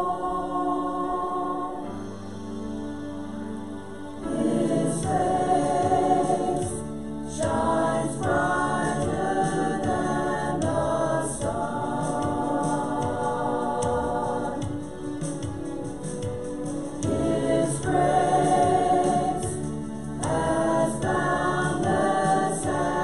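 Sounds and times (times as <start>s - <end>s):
choir singing gospel: 0.0s - 23.0s
instrumental accompaniment with beat: 2.2s - 23.0s.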